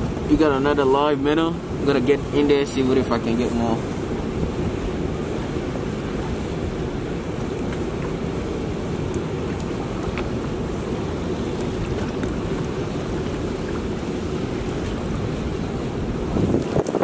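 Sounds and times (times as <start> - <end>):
water rushing below dam: 0.0 - 17.0.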